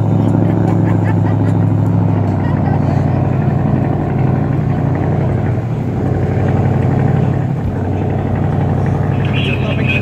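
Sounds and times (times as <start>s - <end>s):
motorboat engine humming: 0.0s - 10.0s.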